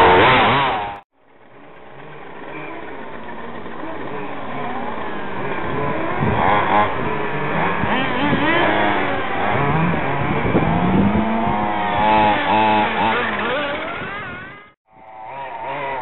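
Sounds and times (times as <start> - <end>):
radio-controlled car engines revving: 0.0 - 16.0.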